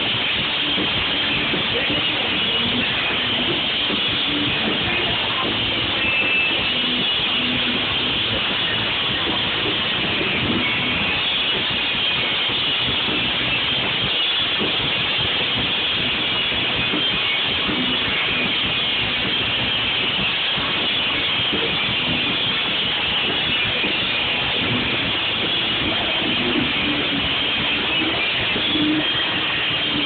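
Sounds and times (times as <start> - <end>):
live punk rock band playing: 0.0 - 30.0.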